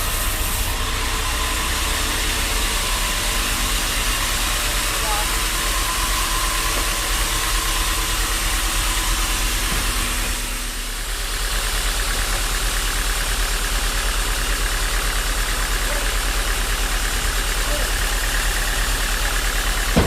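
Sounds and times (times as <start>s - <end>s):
sawmill machinery drone: 0.0s - 20.0s.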